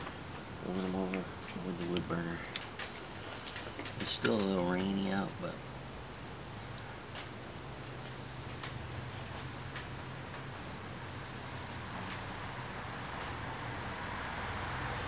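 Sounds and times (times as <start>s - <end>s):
constant hiss: 0.0s - 15.0s
cricket chirping: 0.0s - 15.0s.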